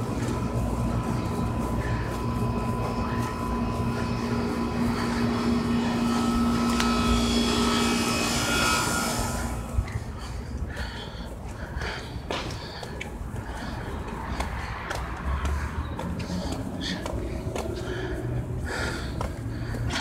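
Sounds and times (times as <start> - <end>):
airplane engine drone with whine: 0.0 - 20.0.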